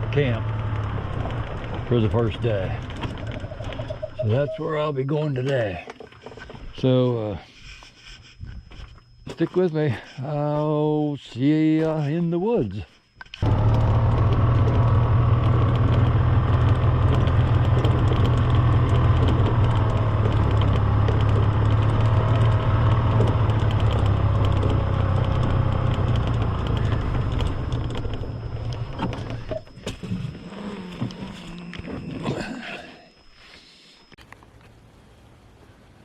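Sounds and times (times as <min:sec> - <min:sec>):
engine droning: 0:00.0 - 0:07.6, 0:13.4 - 0:35.7.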